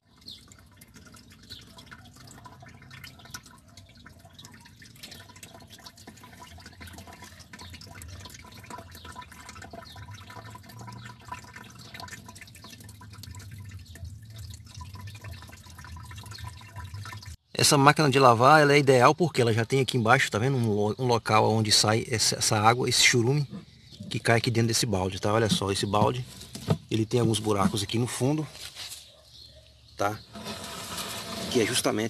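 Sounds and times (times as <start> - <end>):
liquid trickling and splashing: 0.0 - 17.5, 19.3 - 32.0.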